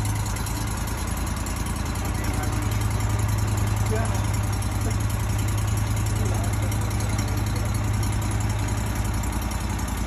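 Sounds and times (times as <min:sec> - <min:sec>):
sawmill engine idling: 0:00.0 - 0:10.0.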